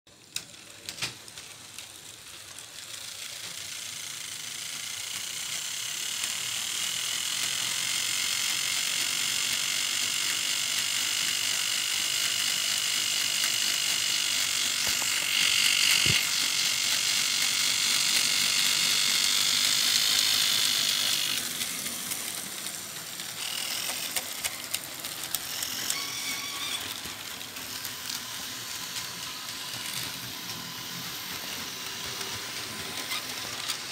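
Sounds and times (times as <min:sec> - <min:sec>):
model train motor whine: 0:00.2 - 0:33.9.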